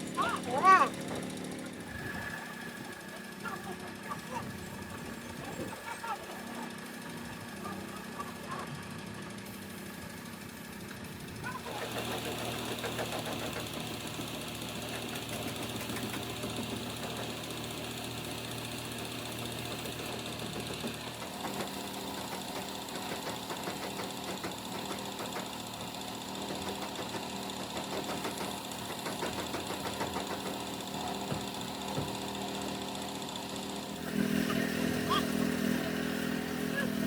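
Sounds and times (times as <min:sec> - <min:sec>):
small engine ticking clatter: 0:00.0 - 0:37.0.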